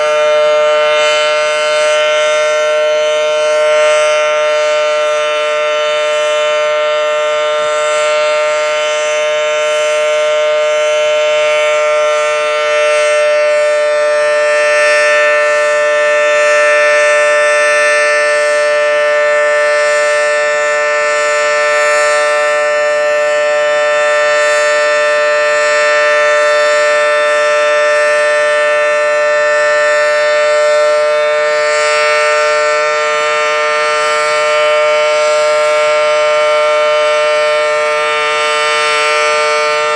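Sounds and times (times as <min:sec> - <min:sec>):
warning siren two-note tone: 0:00.0 - 0:39.9.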